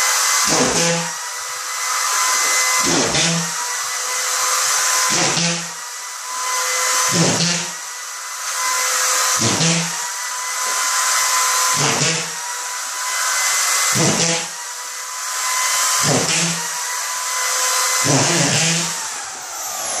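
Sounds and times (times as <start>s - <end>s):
screw gun whining: 0.0s - 20.0s.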